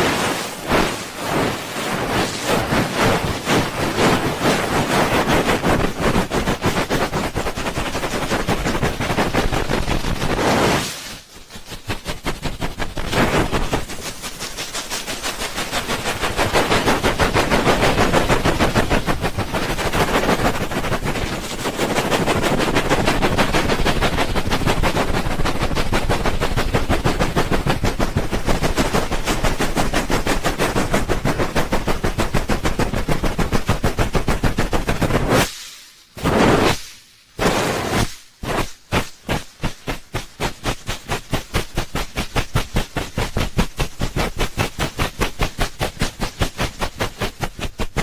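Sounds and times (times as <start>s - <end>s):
hands rubbing microphone: 0.0s - 35.5s, 37.4s - 48.0s.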